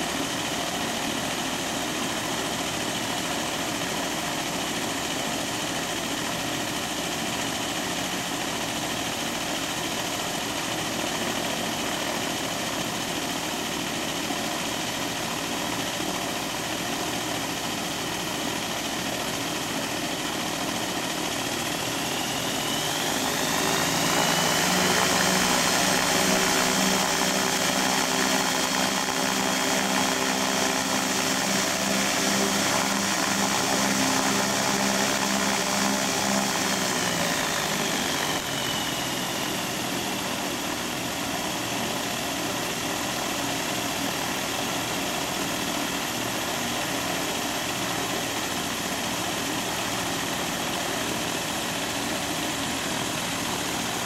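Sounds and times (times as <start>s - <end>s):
aircraft engines revving: 0.0s - 54.0s.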